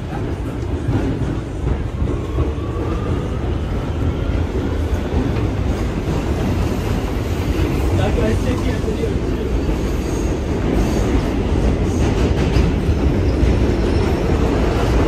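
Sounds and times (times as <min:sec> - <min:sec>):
subway car wheels rumbling on rail: 0:00.0 - 0:15.0.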